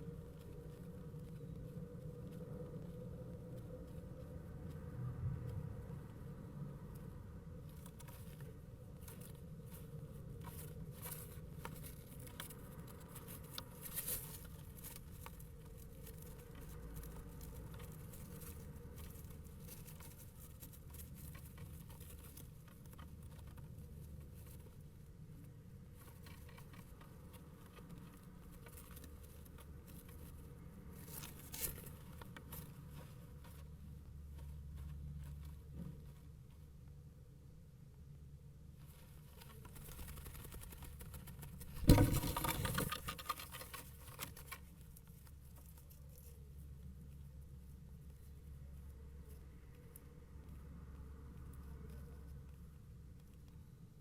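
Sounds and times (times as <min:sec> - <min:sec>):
small taps and scratches: 0:00.2 - 0:37.0, 0:38.8 - 0:54.0.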